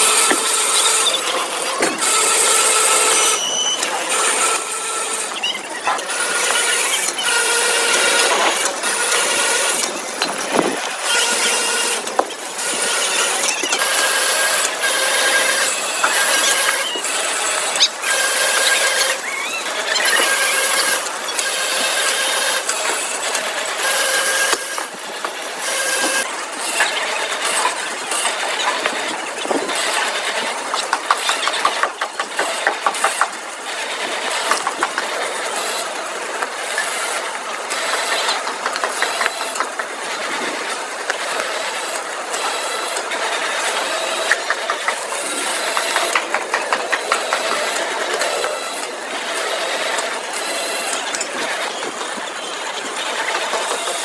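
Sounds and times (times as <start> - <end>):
factory machinery clattering: 0.0 - 54.0.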